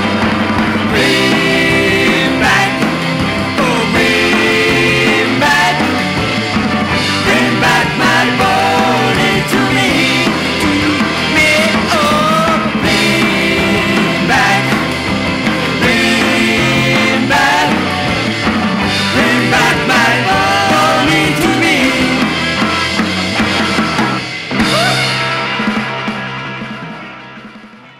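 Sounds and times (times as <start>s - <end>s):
rock and roll band music: 0.0s - 27.9s.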